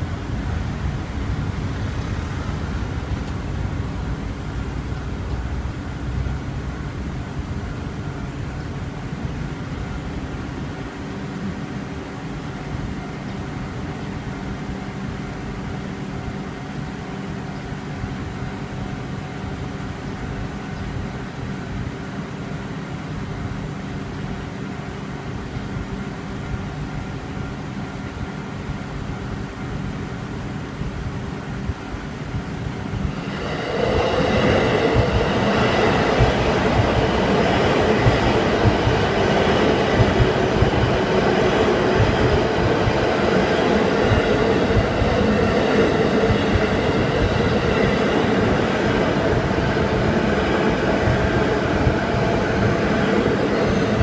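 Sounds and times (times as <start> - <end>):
low rumble of traffic: 0.0 - 54.0.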